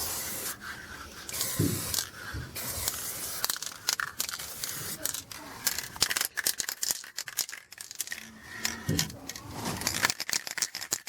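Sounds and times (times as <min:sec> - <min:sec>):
spray cans clicking and rattling: 0:01.2 - 0:11.0.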